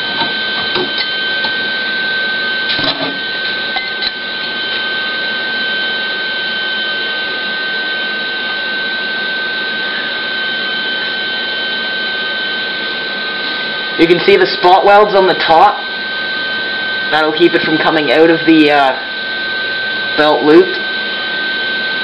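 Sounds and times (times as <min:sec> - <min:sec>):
high machine whine: 0:00.0 - 0:22.0
shop machinery hum: 0:00.0 - 0:22.0.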